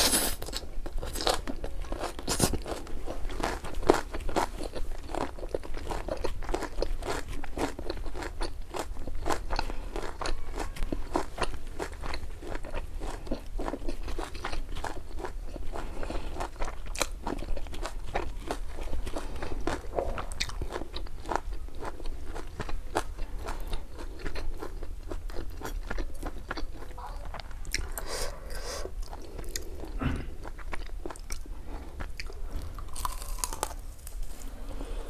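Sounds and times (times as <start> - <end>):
mouth chewing noodles: 0.0 - 35.0.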